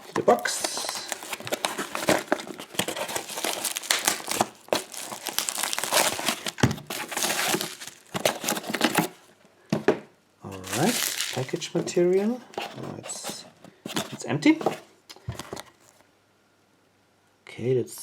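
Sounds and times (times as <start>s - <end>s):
packing material crinkling: 0.0s - 9.3s, 10.5s - 16.0s.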